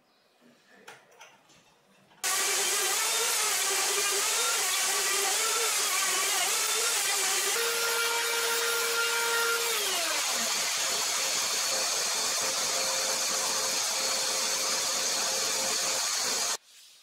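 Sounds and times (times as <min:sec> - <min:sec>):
router cutting wood: 0:02.2 - 0:16.6.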